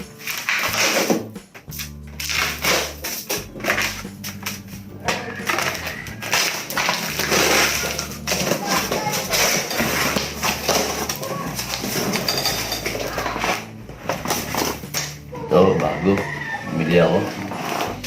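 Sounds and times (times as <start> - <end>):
background music with bass line: 0.0 - 18.0
objects clattering and rustling: 0.0 - 18.0.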